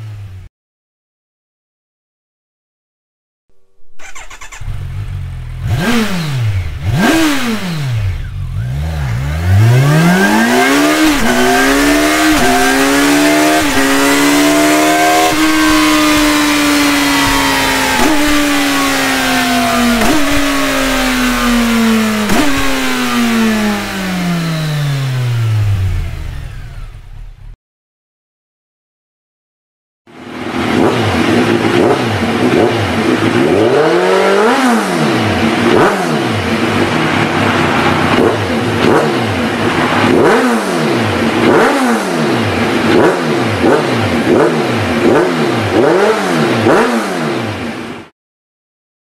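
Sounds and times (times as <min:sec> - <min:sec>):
motorcycle engine revving: 0:03.5 - 0:27.6, 0:30.1 - 0:48.1.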